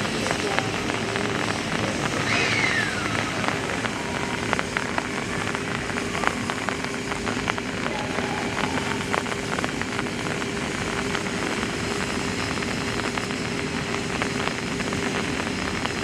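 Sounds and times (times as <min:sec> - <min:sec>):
constant hum: 0:00.0 - 0:16.0
steam hissing: 0:00.0 - 0:16.0.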